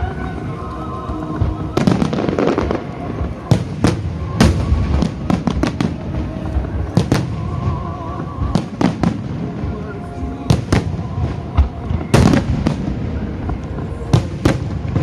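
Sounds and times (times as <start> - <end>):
fireworks bursting and crackling: 0.0 - 15.0
music: 0.0 - 15.0.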